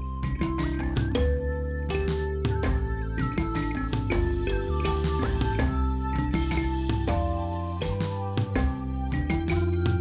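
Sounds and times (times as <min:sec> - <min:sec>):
instrumental music with drums: 0:00.0 - 0:10.0.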